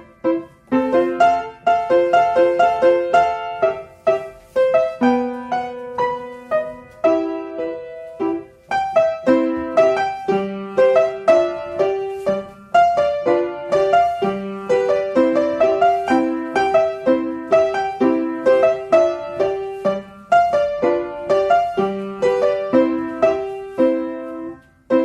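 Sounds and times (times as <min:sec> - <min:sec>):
rhythmic piano accompaniment: 0:00.0 - 0:25.0.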